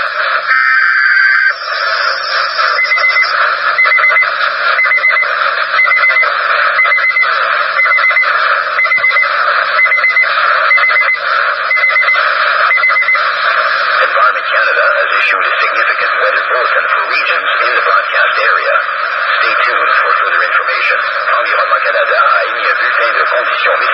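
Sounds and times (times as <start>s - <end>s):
radio hiss: 0.0s - 23.9s
rapid alarm beeps: 0.0s - 23.9s.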